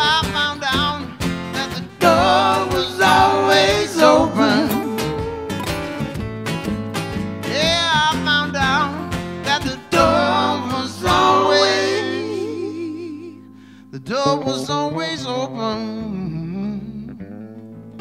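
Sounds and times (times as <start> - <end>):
man singing: 0.0 - 5.8, 7.4 - 17.2
acoustic band music: 0.0 - 18.0.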